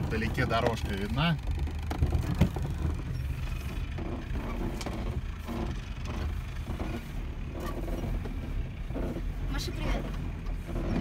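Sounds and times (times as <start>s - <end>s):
van engine and road rumble: 0.0s - 11.0s.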